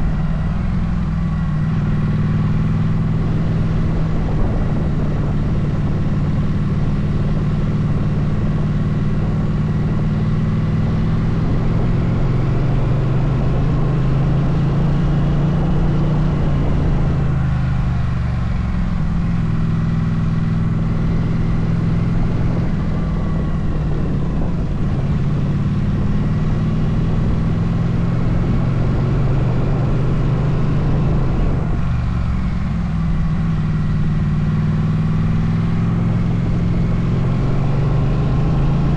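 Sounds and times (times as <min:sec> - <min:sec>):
motorcycle engine running: 0:00.0 - 0:38.9
wind rumble: 0:00.0 - 0:38.9.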